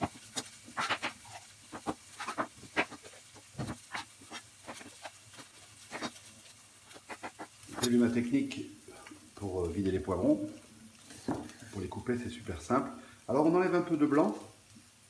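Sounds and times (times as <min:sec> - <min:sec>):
faint frying pan sizzle: 0:00.0 - 0:15.0.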